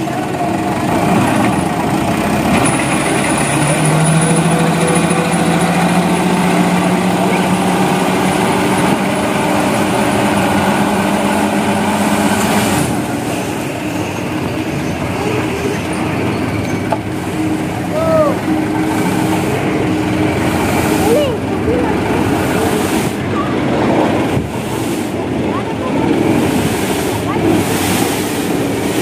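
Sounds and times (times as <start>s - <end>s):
diesel engine at raised revs: 0.0s - 29.0s.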